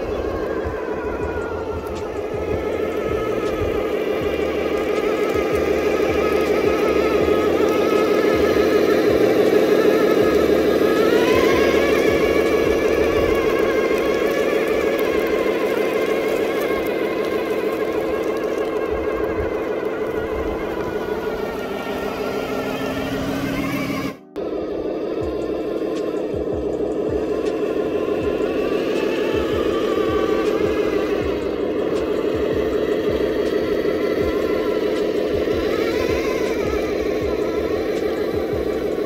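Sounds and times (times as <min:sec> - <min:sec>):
electric motor and gearbox whine: 0:00.0 - 0:39.0.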